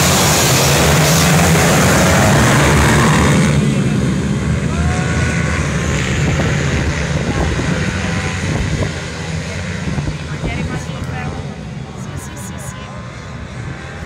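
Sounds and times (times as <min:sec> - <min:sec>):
small motorbike engines racing: 0:00.0 - 0:14.0.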